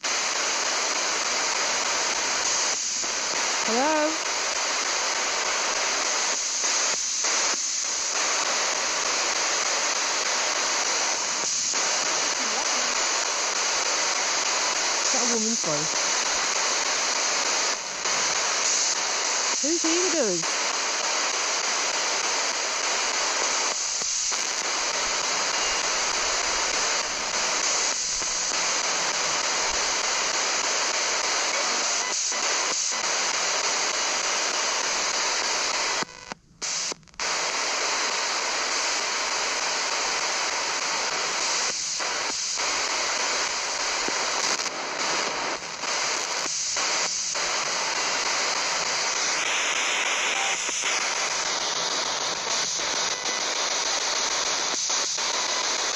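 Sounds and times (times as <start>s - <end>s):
radio static hiss: 0.0s - 55.9s.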